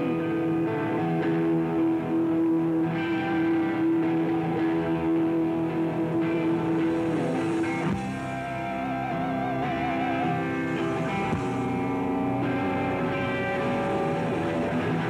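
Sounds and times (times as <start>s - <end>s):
electric guitar note bending down: 0.0s - 15.0s
live rock band playing: 0.0s - 15.0s.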